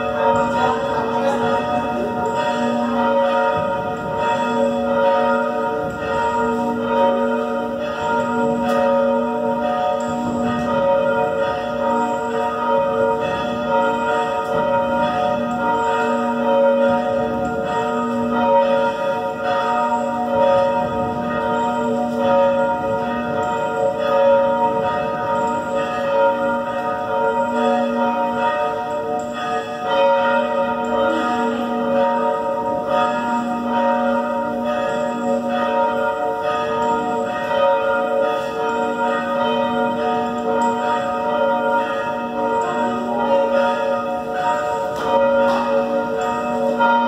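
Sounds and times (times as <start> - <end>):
church bells ringing: 0.0 - 47.0.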